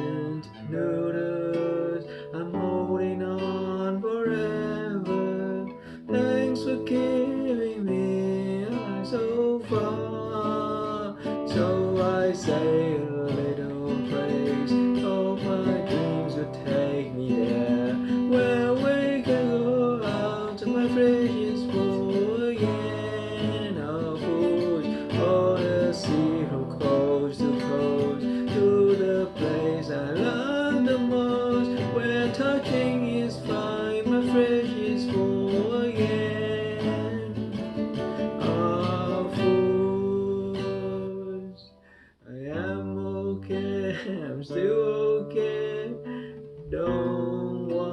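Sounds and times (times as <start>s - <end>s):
person singing: 0.0s - 47.9s
strummed acoustic guitar: 0.0s - 47.9s.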